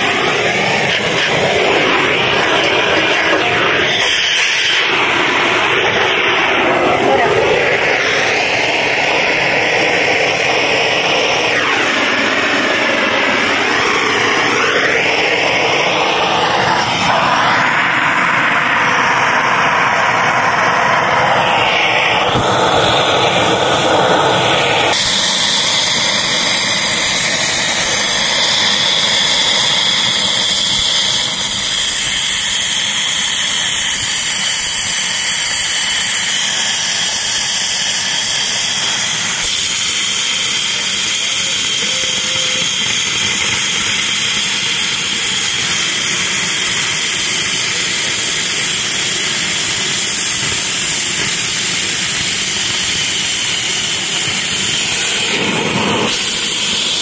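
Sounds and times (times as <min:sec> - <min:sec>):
cutting torch hissing: 0:00.0 - 0:57.0.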